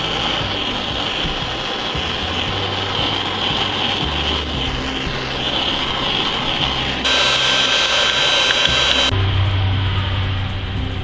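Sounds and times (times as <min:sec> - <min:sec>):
background music with low bass: 0:00.0 - 0:11.0.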